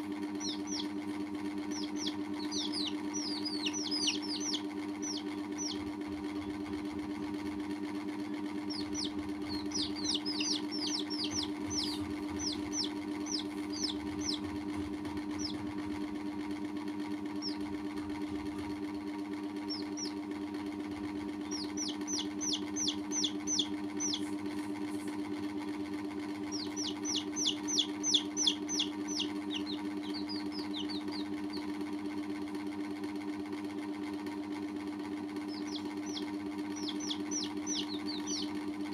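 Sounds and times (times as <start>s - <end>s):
chicks peeping: 0.0s - 25.1s, 25.9s - 31.9s, 35.3s - 38.9s
low mechanical hum: 0.0s - 38.9s.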